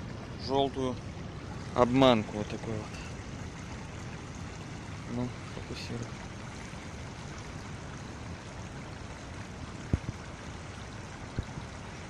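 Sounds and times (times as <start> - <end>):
shallow river water running over stones: 0.0 - 12.0.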